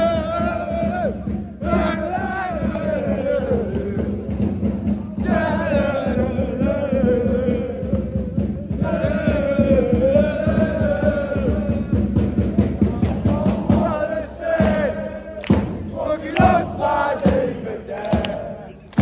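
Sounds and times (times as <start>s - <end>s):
football supporters chanting: 0.0s - 19.0s.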